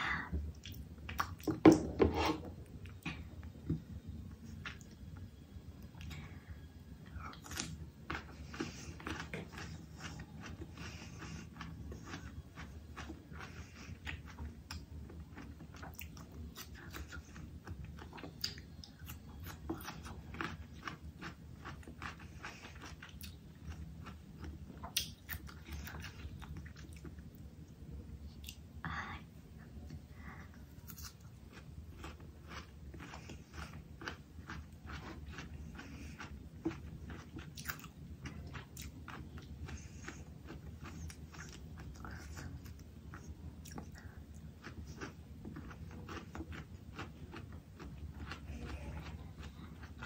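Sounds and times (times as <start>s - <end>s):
person chewing food: 0.6s - 6.4s, 7.0s - 27.4s, 30.6s - 50.0s.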